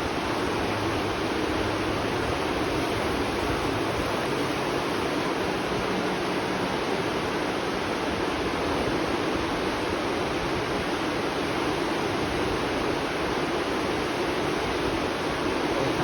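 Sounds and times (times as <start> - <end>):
water flowing along channel: 0.0 - 16.0.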